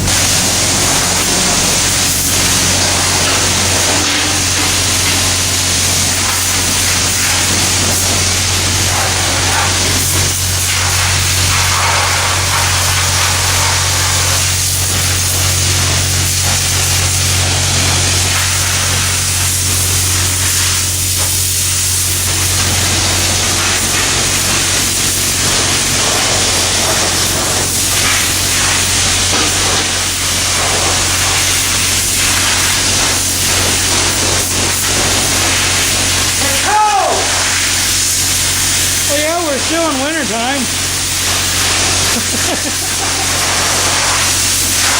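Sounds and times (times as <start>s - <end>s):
pressure washer spraying water: 0.0s - 44.9s.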